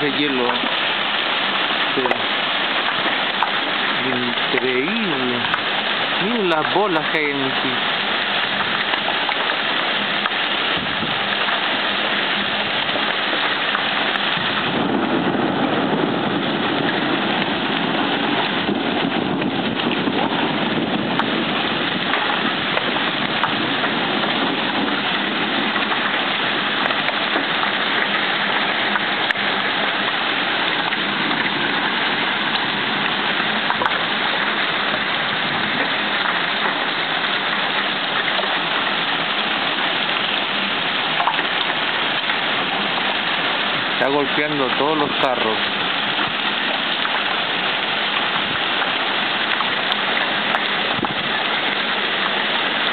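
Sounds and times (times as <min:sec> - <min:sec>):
heavy rain and hail falling: 0:00.0 - 0:52.9.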